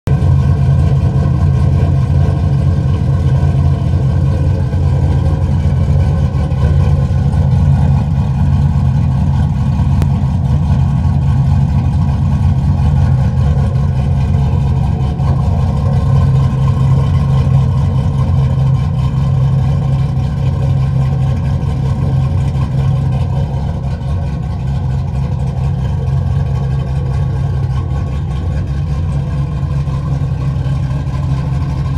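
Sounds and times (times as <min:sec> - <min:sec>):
car engine idling through exhaust: 0:00.0 - 0:31.9.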